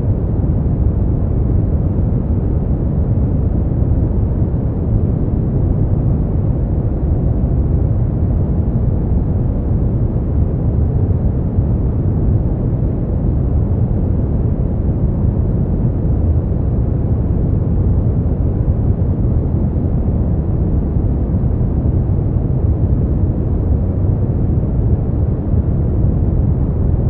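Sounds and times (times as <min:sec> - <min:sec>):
deep rushing brown noise: 0:00.0 - 0:27.0.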